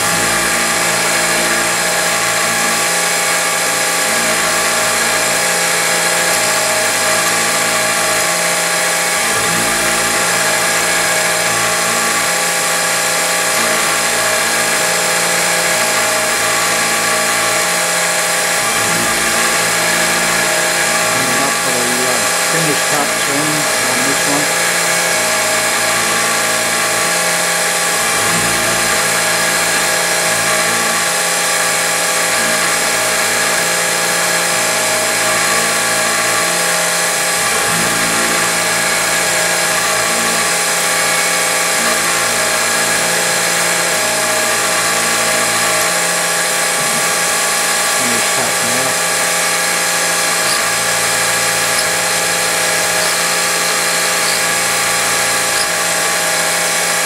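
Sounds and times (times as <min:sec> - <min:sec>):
end mill cutting metal: 0:00.0 - 0:57.0
mill spindle whine: 0:00.0 - 0:57.0.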